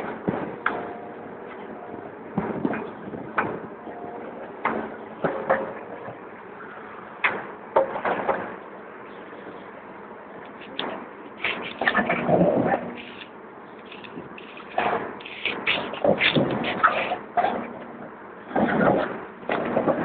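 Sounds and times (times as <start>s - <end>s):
excavator running: 0.0s - 20.0s.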